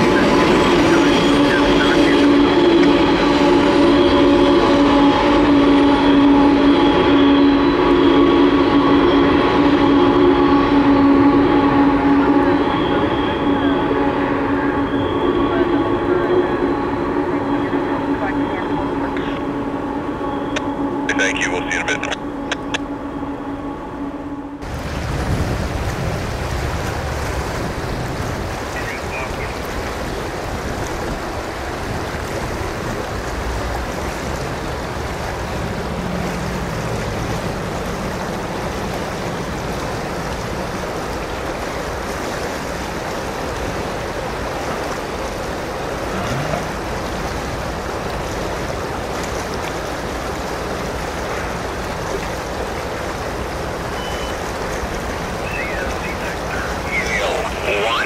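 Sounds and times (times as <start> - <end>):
diesel locomotive rumbling: 0.0 - 58.0
flowing river water: 0.0 - 58.0.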